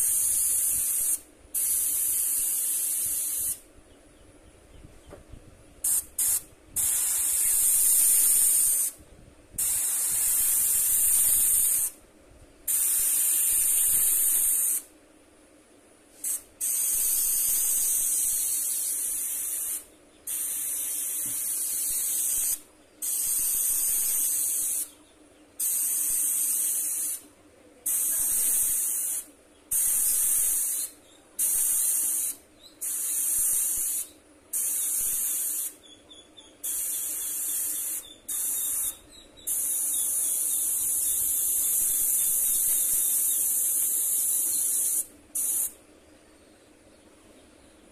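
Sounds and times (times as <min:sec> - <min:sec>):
airbrush spraying hiss: 0:00.0 - 0:03.7, 0:05.8 - 0:09.0, 0:09.6 - 0:12.0, 0:12.7 - 0:14.9, 0:16.1 - 0:25.0, 0:25.6 - 0:35.8, 0:36.6 - 0:45.8.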